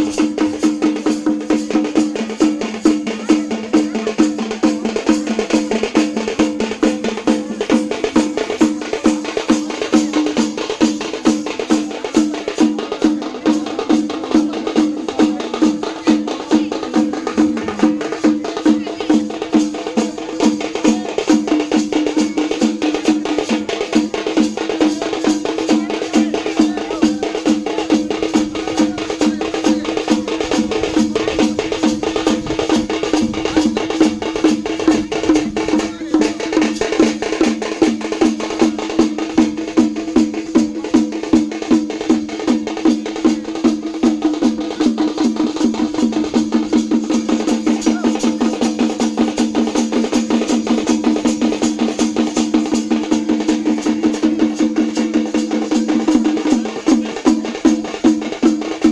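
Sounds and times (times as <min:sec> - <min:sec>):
fast drumming: 0:00.0 - 0:58.9.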